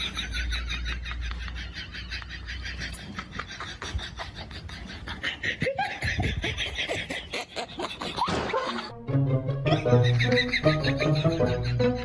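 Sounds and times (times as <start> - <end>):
people laughing: 0.0 - 9.0, 9.6 - 12.0.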